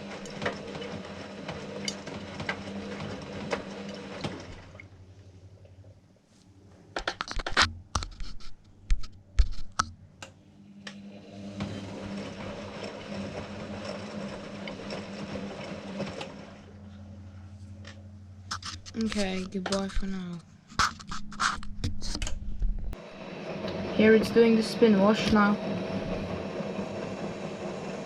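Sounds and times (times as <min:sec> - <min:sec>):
washing machine motor hum: 0:00.0 - 0:06.9, 0:07.7 - 0:28.0.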